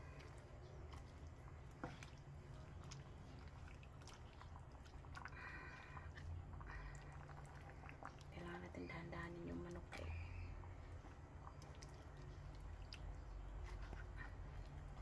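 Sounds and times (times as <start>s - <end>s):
wooden spatula stirring in pan: 0.0s - 8.9s, 9.5s - 15.0s.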